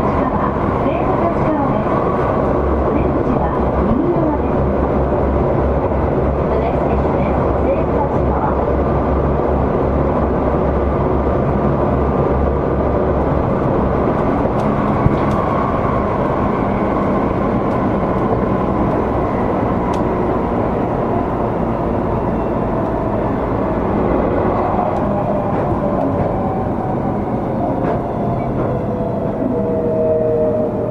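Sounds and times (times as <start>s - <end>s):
electric train rumbling: 0.0s - 30.9s.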